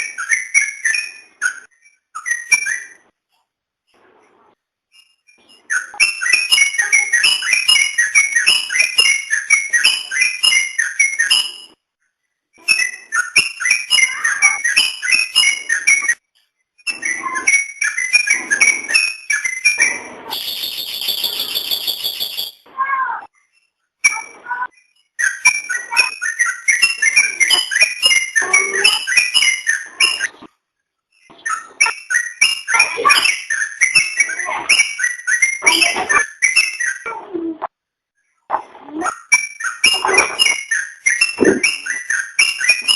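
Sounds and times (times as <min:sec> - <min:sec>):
bird chirping song: 0:00.0 - 0:03.4, 0:04.9 - 0:22.7, 0:23.3 - 0:37.5, 0:38.2 - 0:42.9.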